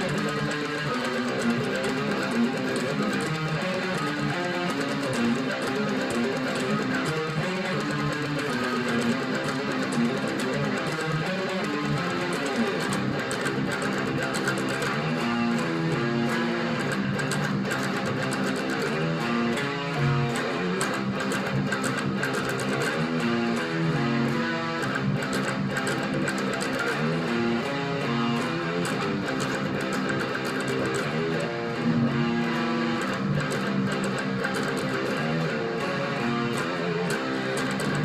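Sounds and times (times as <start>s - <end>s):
guitar strummed and picked: 0.0s - 38.0s.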